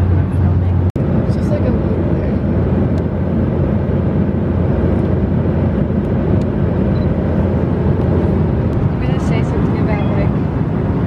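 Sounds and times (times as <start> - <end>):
airliner cabin engine drone: 0.0 - 11.0.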